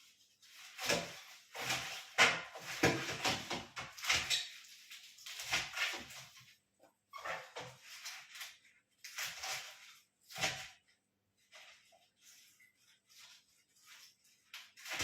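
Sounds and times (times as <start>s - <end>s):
kitchen scrapes and rustles: 0.0s - 15.0s.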